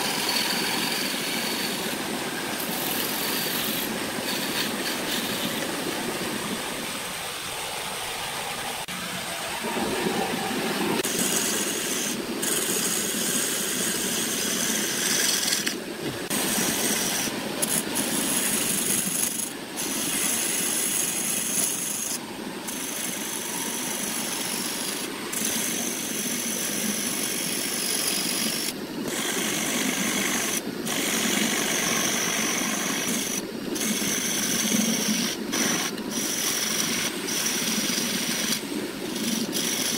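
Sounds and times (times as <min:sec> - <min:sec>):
wood lathe scraping hiss: 0:00.0 - 0:06.4, 0:09.7 - 0:39.9.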